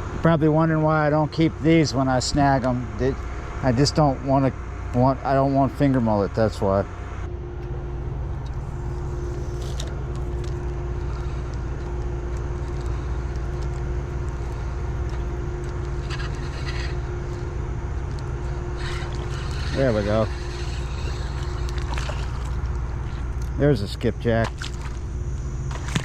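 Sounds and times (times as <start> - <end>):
low mechanical drone: 0.0 - 26.0.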